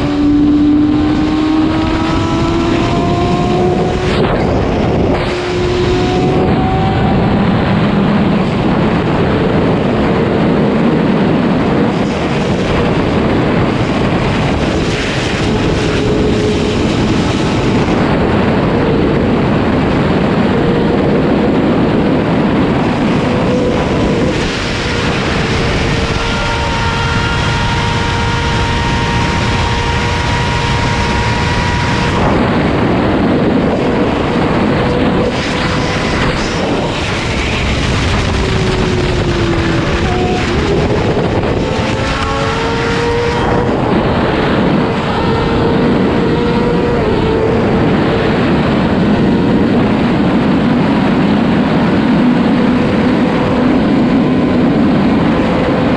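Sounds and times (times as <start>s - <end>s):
motorcycle engine running: 0.0s - 55.9s
wind noise: 0.0s - 55.9s.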